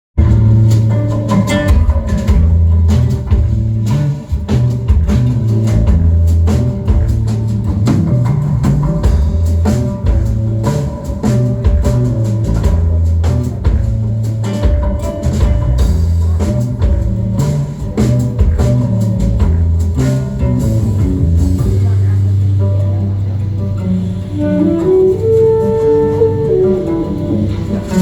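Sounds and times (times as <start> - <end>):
bass guitar line: 0.2 - 28.0
drum kit beat: 0.2 - 28.0
guitar: 0.2 - 28.0.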